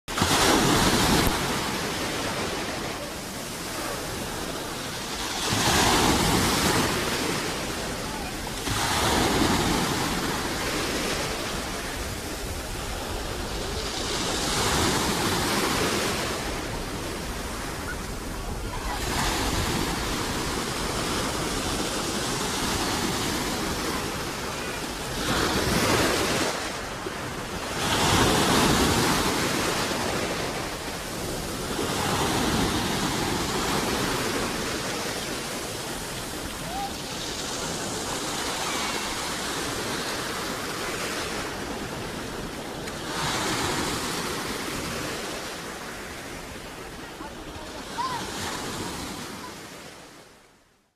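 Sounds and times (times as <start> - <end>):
ocean waves breaking: 0.1 - 50.4.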